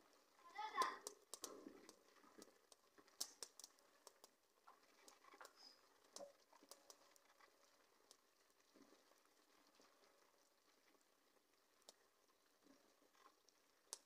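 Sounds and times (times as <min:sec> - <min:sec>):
faint clicks and pops: 0:00.0 - 0:14.0.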